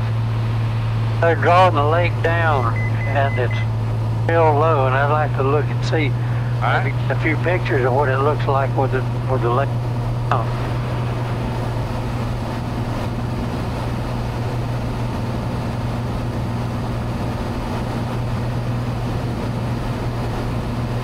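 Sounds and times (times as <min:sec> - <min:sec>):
airplane engine and propeller droning: 0:00.0 - 0:21.0.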